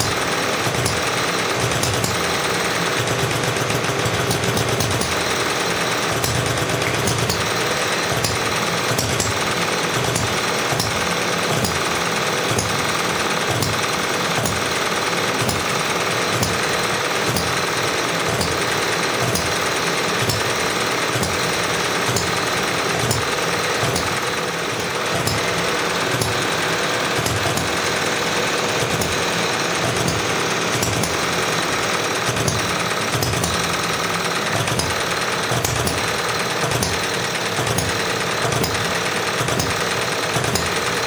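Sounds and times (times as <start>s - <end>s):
model engine chuffing: 0.0s - 41.0s
sharp ignition click: 0.0s - 41.0s.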